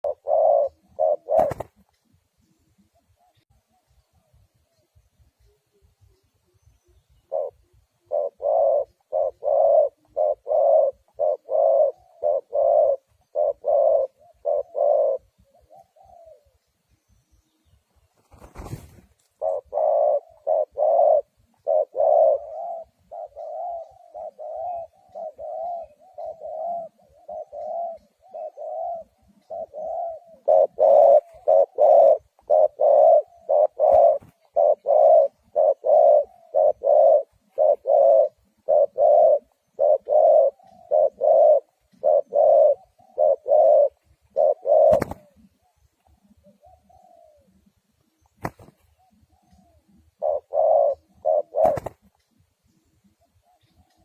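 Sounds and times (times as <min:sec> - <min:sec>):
dove cooing: 0:00.0 - 0:16.7, 0:18.2 - 0:54.0.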